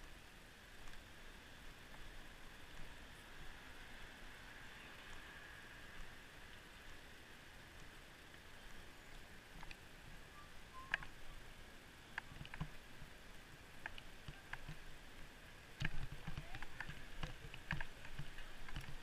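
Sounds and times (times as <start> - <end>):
distant road traffic hiss: 0.0 - 19.0.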